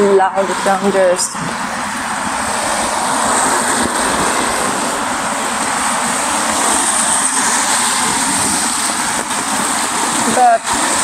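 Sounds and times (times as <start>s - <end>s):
heavy rain on umbrella: 1.6s - 11.0s.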